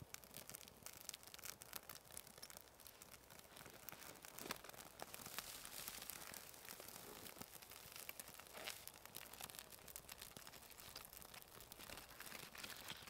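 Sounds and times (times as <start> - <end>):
bark burning and crackling: 0.0 - 13.0.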